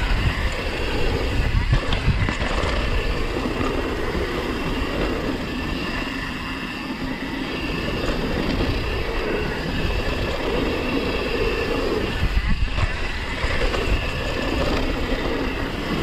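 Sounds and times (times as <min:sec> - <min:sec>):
bike tyres rumbling on dirt: 0:00.0 - 0:16.0.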